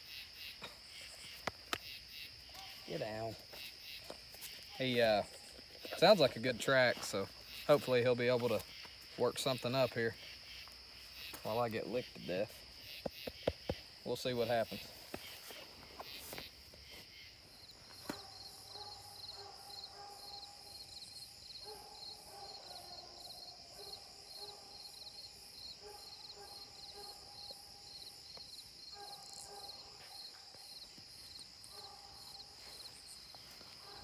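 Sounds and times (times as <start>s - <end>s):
crickets chirping: 0.0s - 34.0s
insect drone: 0.0s - 34.0s.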